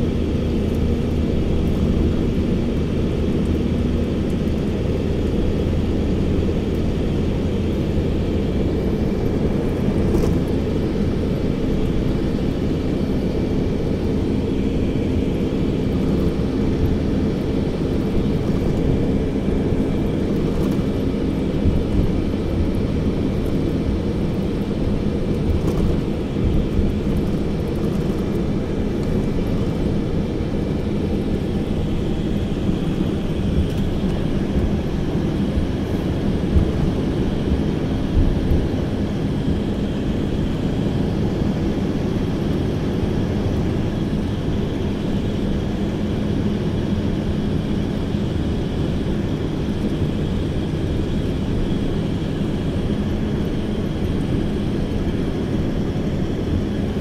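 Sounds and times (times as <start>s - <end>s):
engine and road drone in car cabin: 0.0s - 57.0s.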